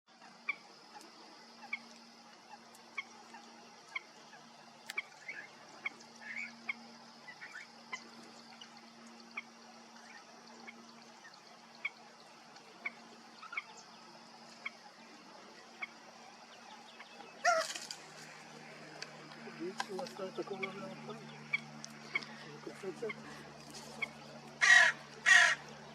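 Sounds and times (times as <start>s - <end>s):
swamphen calling: 0.2s - 25.9s.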